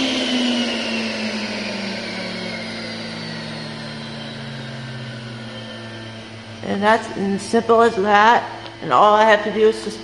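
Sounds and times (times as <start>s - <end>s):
vacuum motor whine winding down: 0.0s - 10.0s.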